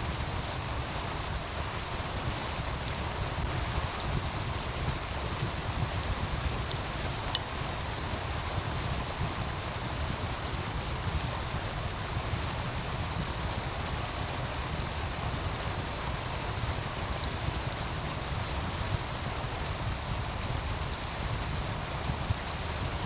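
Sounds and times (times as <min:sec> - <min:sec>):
wood fire crackling and popping: 0:00.1 - 0:23.0.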